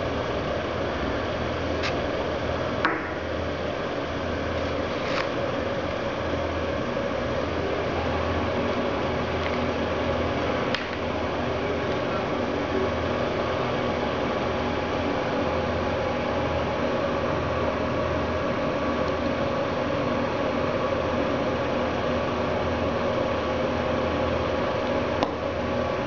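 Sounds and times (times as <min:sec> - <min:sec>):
background hiss and hum: 0:00.0 - 0:26.0.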